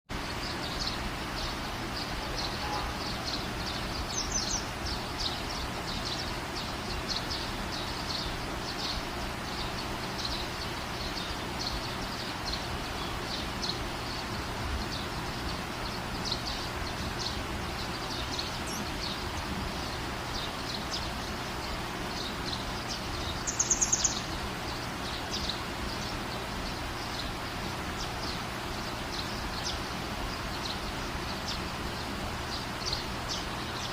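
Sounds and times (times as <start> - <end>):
small birds chirping: 0.1 - 33.9
steady hiss: 0.1 - 33.9.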